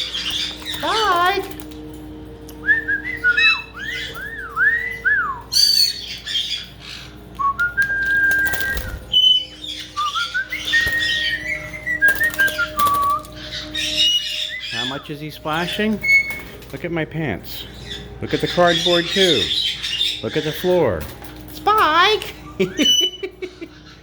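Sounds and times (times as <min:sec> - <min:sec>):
parrots whistling: 0:00.0 - 0:24.0.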